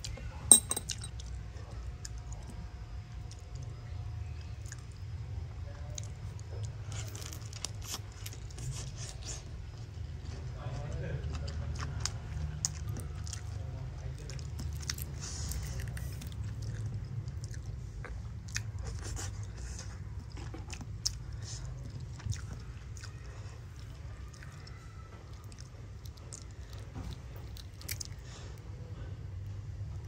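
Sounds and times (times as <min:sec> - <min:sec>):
person chewing wet food: 0:01.8 - 0:28.8.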